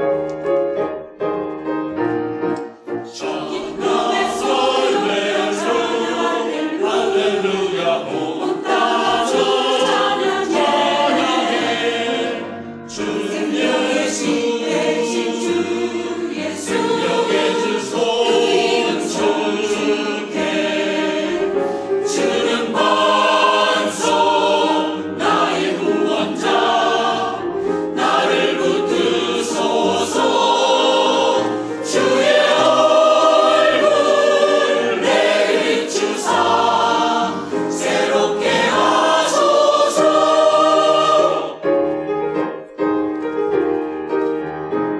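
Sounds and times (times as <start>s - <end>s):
mixed choir singing gospel: 2.8s - 42.0s.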